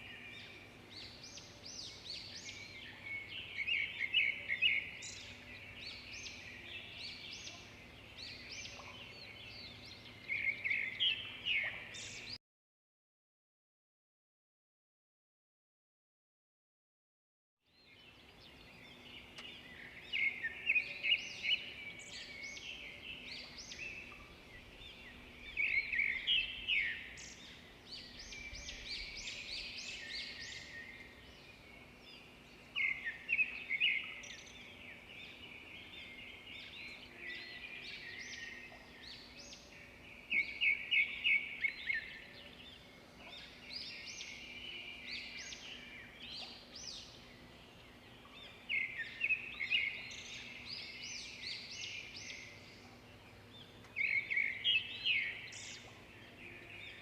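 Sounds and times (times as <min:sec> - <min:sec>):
birds singing and chirping: 0:00.0 - 0:12.4, 0:17.7 - 0:57.0.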